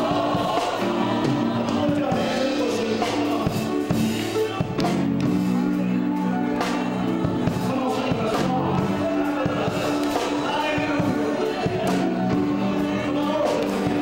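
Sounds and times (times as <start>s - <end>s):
gospel singing voices: 0.0s - 14.0s
piano playing held chords: 0.0s - 14.0s.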